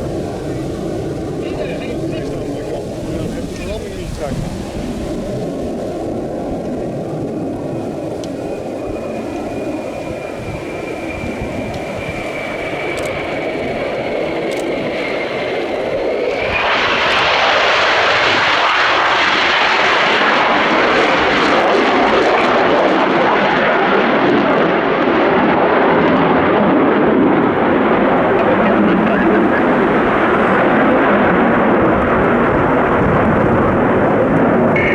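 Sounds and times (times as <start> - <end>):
jet engine whine and roar: 0.0 - 34.9.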